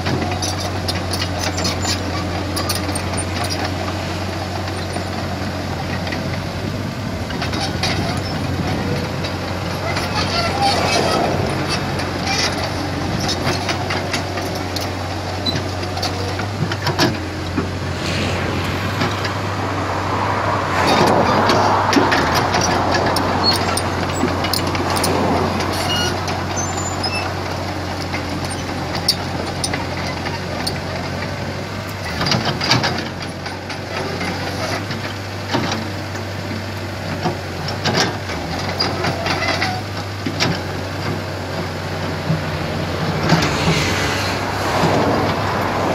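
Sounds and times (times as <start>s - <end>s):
excavator engine running: 0.0s - 45.9s.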